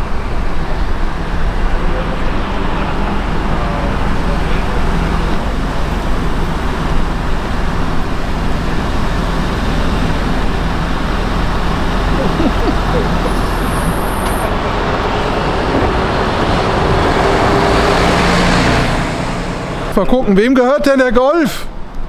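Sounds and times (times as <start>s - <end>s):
vehicle engine running: 0.0s - 20.1s.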